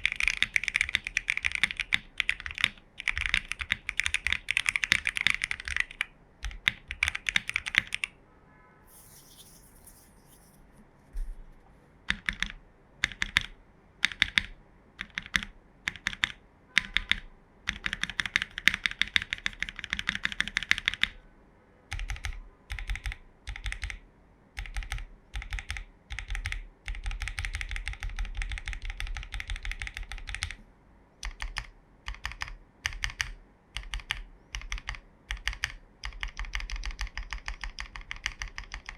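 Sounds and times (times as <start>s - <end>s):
mechanical keyboard typing: 0.0s - 8.1s, 12.1s - 21.2s, 21.9s - 24.0s, 24.6s - 30.6s, 31.2s - 38.9s.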